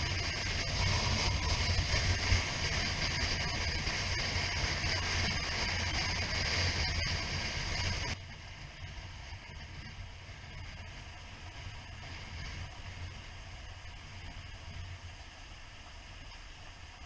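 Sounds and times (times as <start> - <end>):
low motorcycle engine hum: 0.0 - 17.0
wind and road noise: 0.0 - 17.0.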